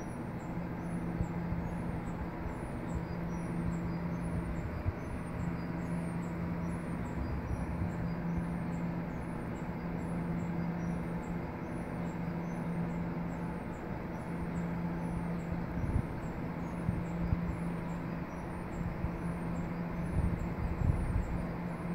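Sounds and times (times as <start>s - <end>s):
electric hum of drive equipment: 0.0s - 21.9s
mechanical whir: 0.0s - 21.9s.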